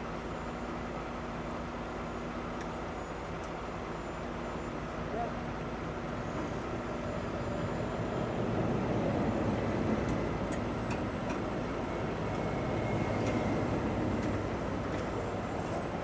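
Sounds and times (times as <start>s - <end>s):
heavy vehicle rumble: 0.0s - 16.0s.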